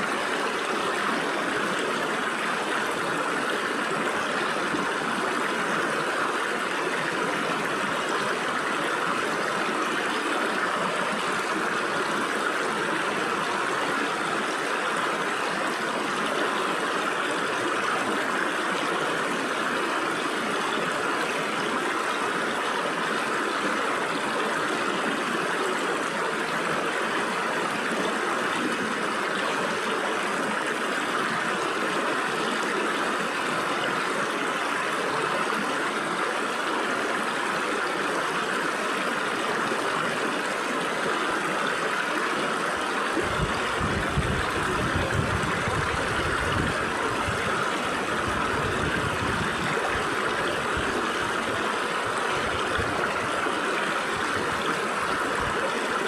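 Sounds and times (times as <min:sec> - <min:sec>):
gurgling trickle: 0:00.0 - 0:56.0
stream water rushing over rocks: 0:00.0 - 0:56.0.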